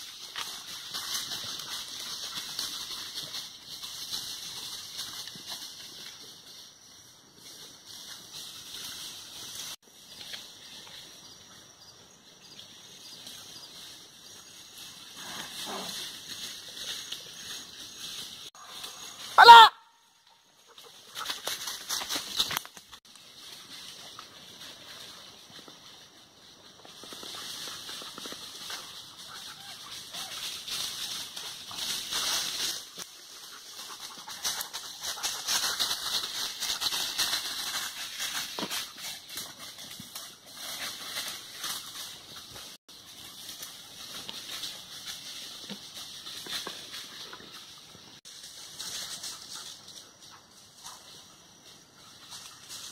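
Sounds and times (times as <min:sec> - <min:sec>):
footsteps crunching dry leaves: 0:00.0 - 0:11.1, 0:12.9 - 0:20.0, 0:20.6 - 0:50.2.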